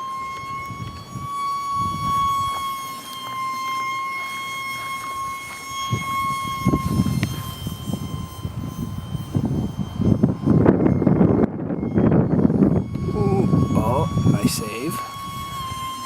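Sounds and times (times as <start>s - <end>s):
wind rumble on microphone: 0.0s - 3.0s, 5.1s - 16.0s
electric ducted fan whining: 0.0s - 16.0s.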